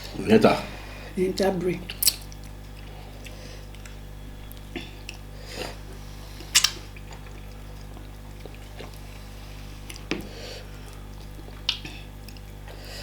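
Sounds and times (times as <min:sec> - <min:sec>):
steady low hum: 0:00.0 - 0:13.0
wet chewing smacks and clicks: 0:01.9 - 0:13.0.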